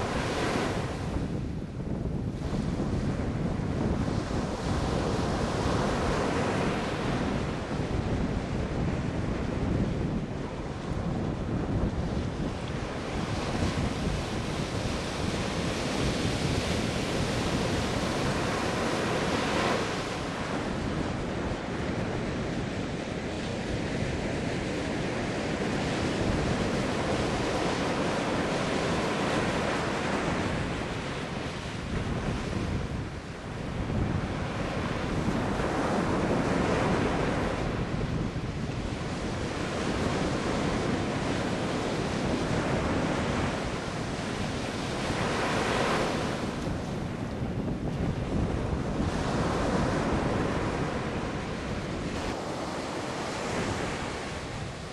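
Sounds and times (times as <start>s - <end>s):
ocean waves breaking on beach: 0.0s - 54.9s
wind buffeting microphone: 0.0s - 54.9s.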